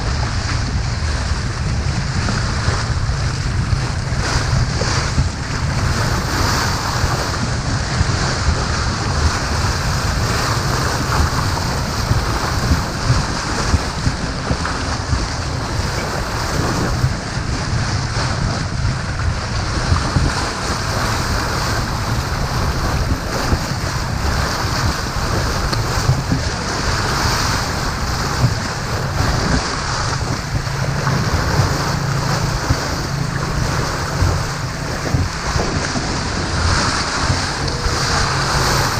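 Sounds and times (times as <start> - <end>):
rushing sea water: 0.0 - 38.9
wind buffeting microphone: 0.0 - 38.9.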